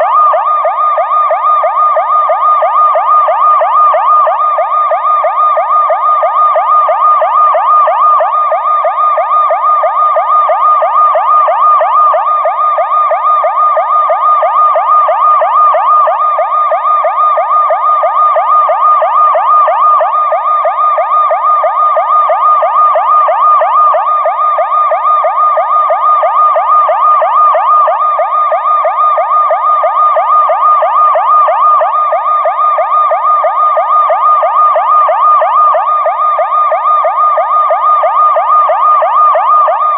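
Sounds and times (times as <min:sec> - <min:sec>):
reversed police siren: 0:00.0 - 0:39.9.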